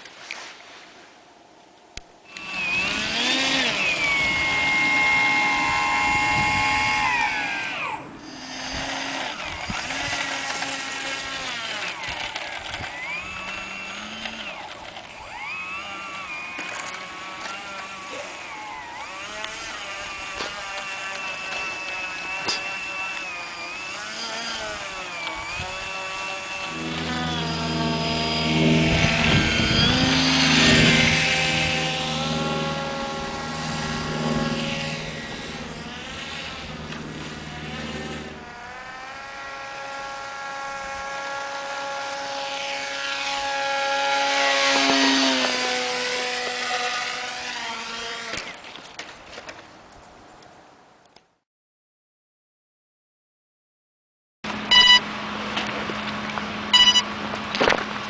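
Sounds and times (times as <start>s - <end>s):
electric motor and propeller whining: 2.2s - 49.6s, 54.5s - 58.0s.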